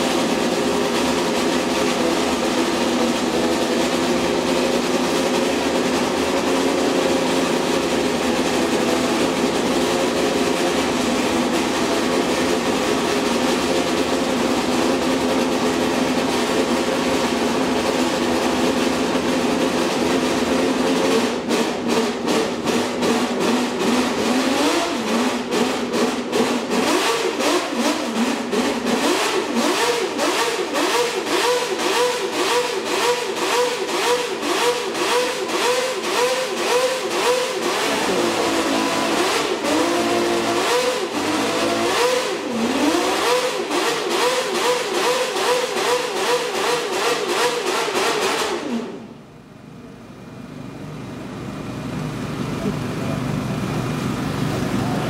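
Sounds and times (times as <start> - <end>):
racing engine revving: 0.0 - 49.1.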